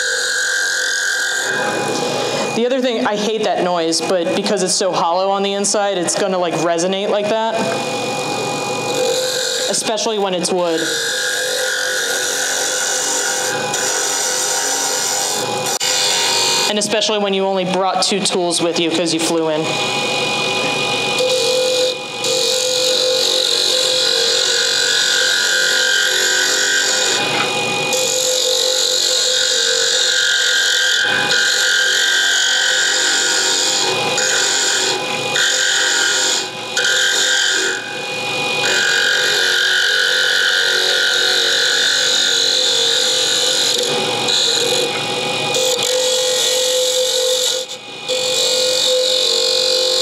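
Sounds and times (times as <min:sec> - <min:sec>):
wood lathe spinning: 0:00.0 - 0:50.0.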